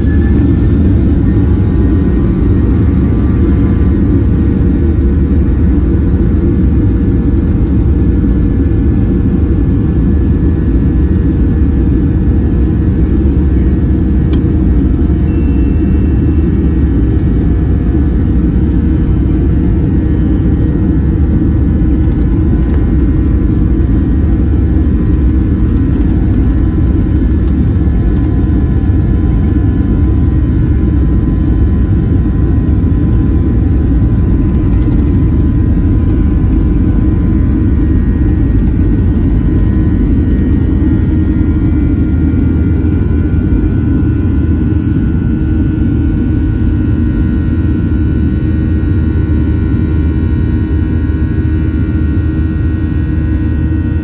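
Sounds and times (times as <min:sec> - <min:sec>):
faint whine tones: 0:00.0 - 0:05.9, 0:10.9 - 0:54.0
higher whine: 0:00.0 - 0:54.0
jet engine rumble in cabin: 0:00.0 - 0:54.0.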